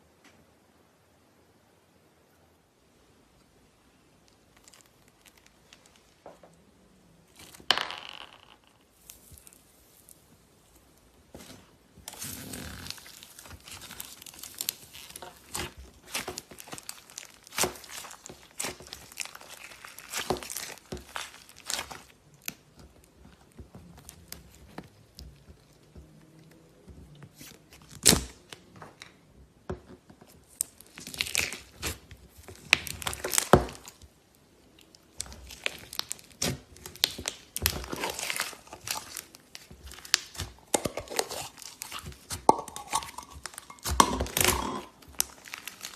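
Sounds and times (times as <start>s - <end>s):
slime crackling and popping: 4.2s - 6.2s, 7.3s - 28.6s, 30.4s - 45.9s.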